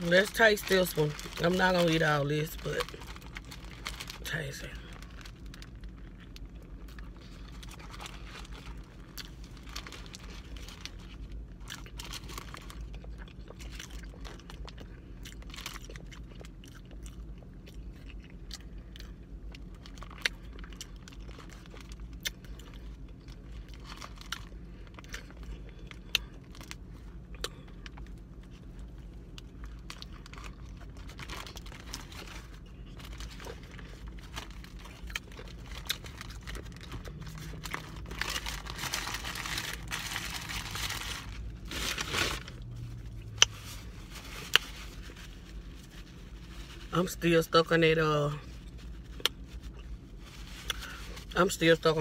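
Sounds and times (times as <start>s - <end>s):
wet chewing and crunching: 0.0s - 46.7s, 48.5s - 51.9s
steady low hum: 0.0s - 52.0s.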